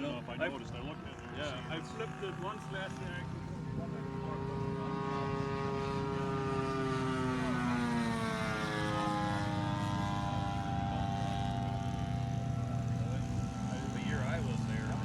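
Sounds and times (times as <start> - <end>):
model airplane engine flying past: 0.0 - 15.0.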